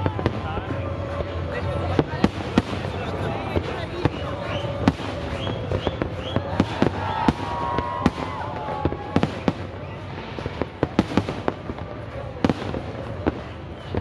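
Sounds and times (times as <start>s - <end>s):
fireworks sharp bangs: 0.0s - 14.0s
steady background din: 0.0s - 14.0s.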